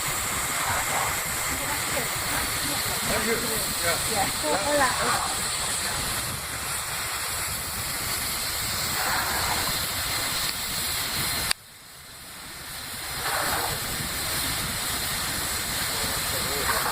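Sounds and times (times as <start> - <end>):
steam locomotive hissing: 0.0 - 16.9.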